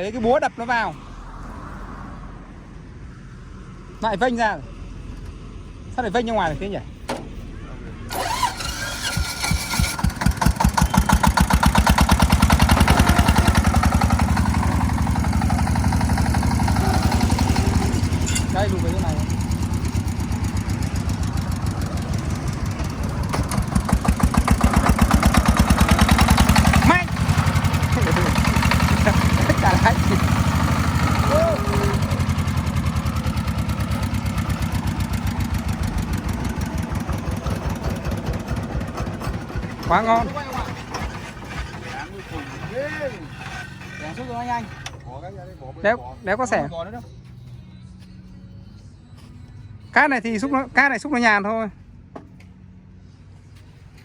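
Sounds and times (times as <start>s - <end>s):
diesel engine starting and running: 0.0s - 50.7s.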